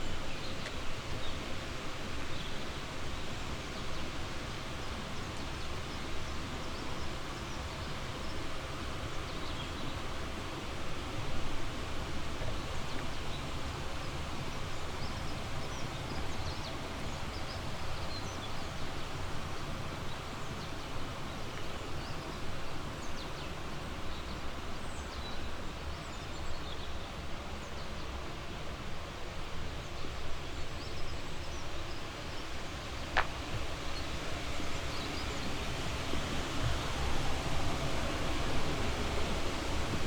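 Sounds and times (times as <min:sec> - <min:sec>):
outdoor background rush: 0:00.0 - 0:40.0.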